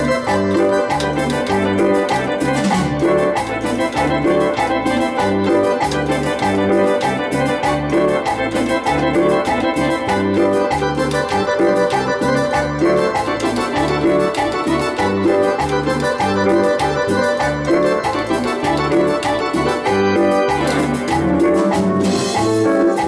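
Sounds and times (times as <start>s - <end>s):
steady drum beat: 0.0s - 10.7s, 11.3s - 23.0s
synthesizer playing cumbia tune: 0.0s - 23.0s.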